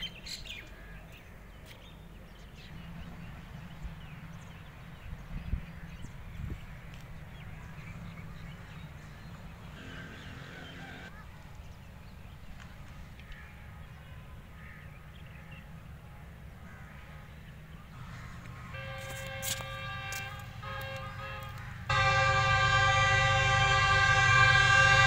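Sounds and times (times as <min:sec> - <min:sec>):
low rumble of distant traffic: 0:00.0 - 0:25.0.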